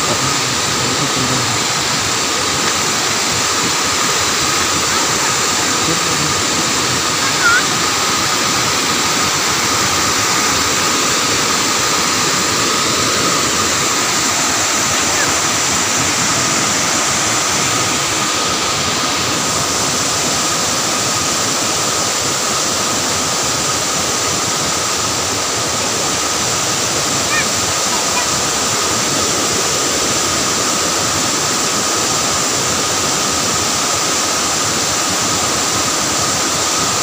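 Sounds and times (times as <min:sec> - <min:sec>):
water rushing over dam gates: 0:00.0 - 0:37.0.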